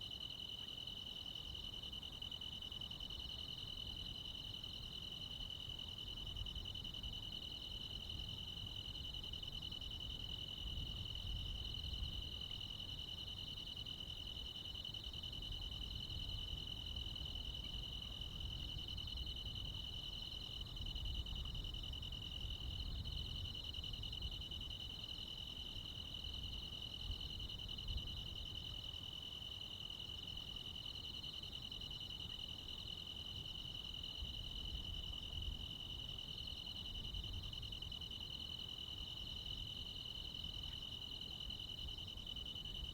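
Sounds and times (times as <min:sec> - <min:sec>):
crickets and insects chirring: 0:00.0 - 0:42.9.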